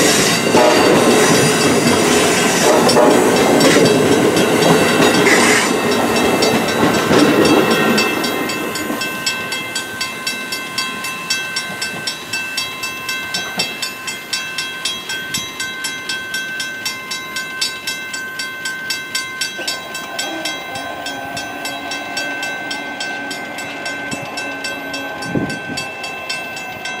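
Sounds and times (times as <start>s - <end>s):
crossing warning bell ringing: 0.0s - 27.0s
train rolling past: 0.0s - 27.0s.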